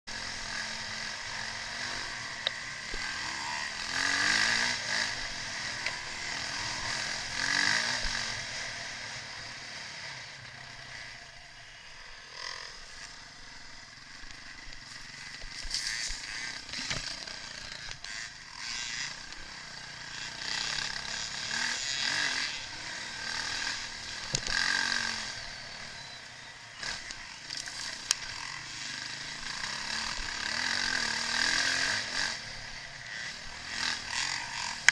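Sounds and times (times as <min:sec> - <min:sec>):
motocross bikes revving past: 0:00.1 - 0:34.9.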